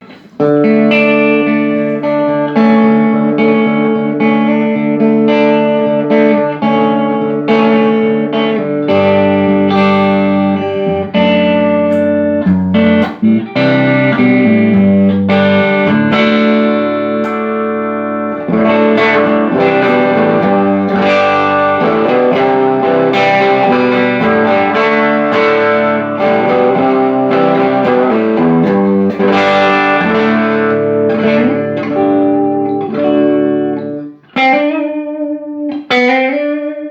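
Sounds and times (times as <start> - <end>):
electric guitar through amp: 0.0 - 36.9.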